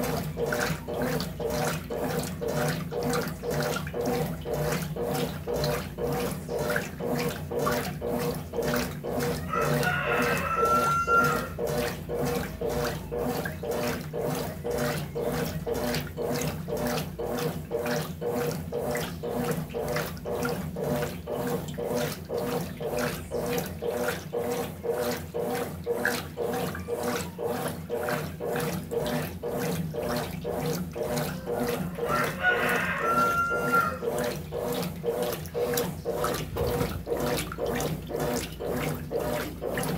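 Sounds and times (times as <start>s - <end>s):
motor hum: 0.0s - 39.9s
washing machine agitator swishing: 0.0s - 39.9s.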